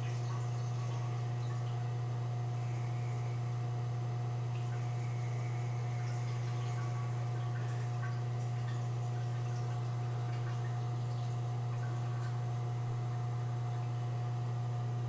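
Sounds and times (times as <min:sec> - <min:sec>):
urinating into toilet: 0:00.0 - 0:03.6, 0:04.4 - 0:14.2
steady low hum: 0:00.0 - 0:15.0.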